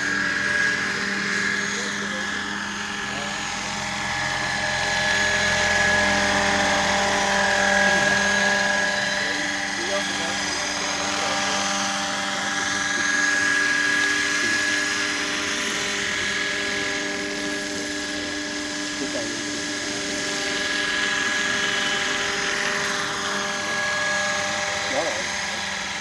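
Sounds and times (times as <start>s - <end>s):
helicopter rotor hum: 0.0s - 26.0s
model helicopter drive whine: 0.0s - 26.0s.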